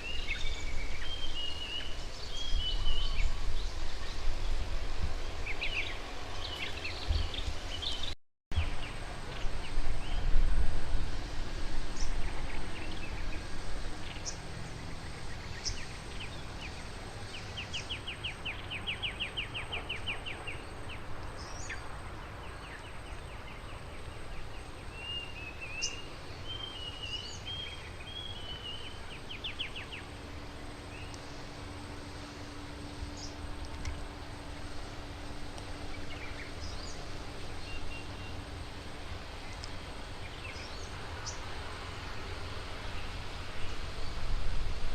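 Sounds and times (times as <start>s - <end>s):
outdoor background noise: 0.0s - 44.9s.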